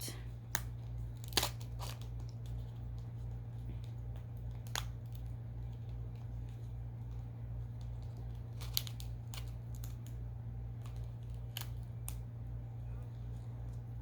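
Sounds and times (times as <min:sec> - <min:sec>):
low electrical hum: 0:00.0 - 0:14.0
packaging crinkling: 0:00.5 - 0:12.3.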